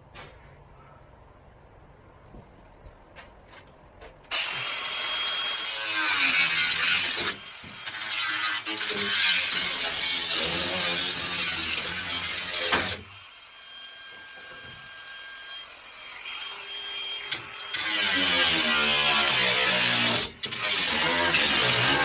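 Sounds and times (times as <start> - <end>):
power tool cutting sheet metal: 4.3 - 22.0.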